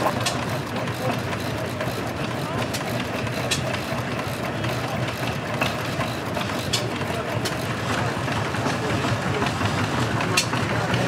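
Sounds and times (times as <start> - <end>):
old engine running: 0.0 - 11.0.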